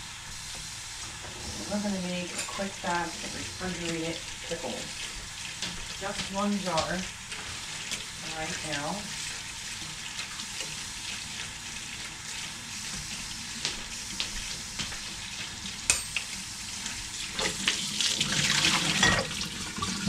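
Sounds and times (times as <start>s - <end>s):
tap water running into sink: 0.4s - 20.0s.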